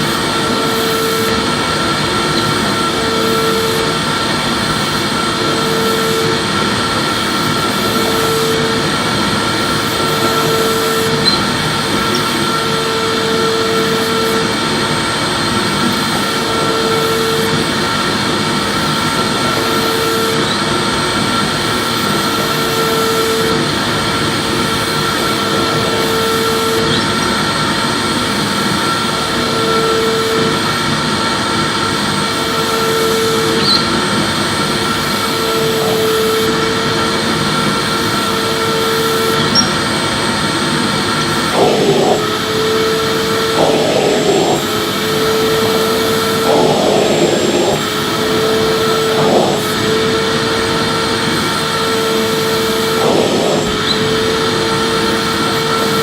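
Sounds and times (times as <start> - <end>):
vacuum cleaner running: 0.0 - 56.0
vacuum nozzle scraping floor: 0.0 - 56.0.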